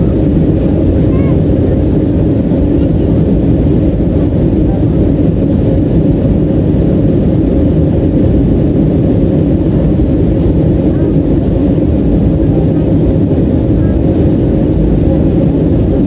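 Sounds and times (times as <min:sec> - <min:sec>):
faint steady hum: 0:00.0 - 0:16.0
jet engines roaring: 0:00.0 - 0:16.0
rushing air: 0:00.0 - 0:16.0.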